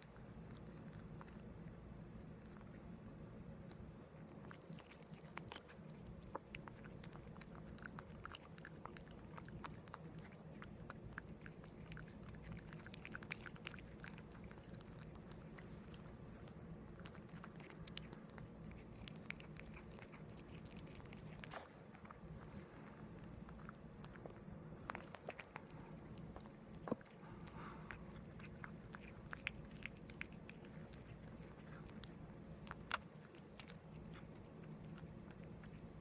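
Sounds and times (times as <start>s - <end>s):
cat chewing food: 0.0s - 36.0s
low steady hum: 0.0s - 36.0s.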